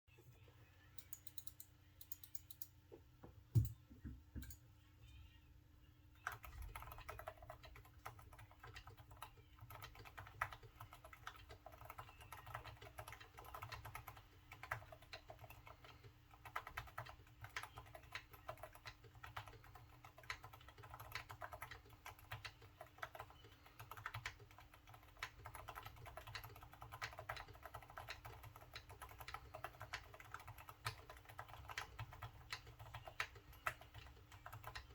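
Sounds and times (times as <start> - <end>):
quiet keyboard typing: 1.0 - 2.8, 6.2 - 34.9.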